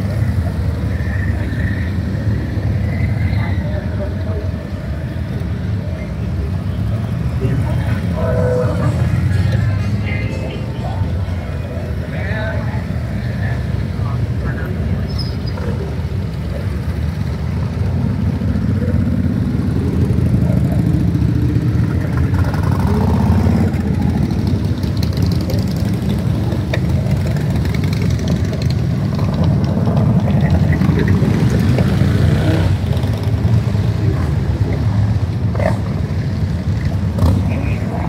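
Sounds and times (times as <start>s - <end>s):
motorcycle engines rumbling: 0.0s - 38.0s.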